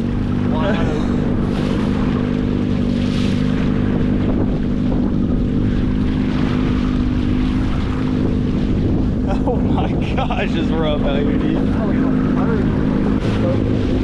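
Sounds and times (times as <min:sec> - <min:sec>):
outboard engine running: 0:00.0 - 0:14.0
wind noise on microphone: 0:00.0 - 0:14.0.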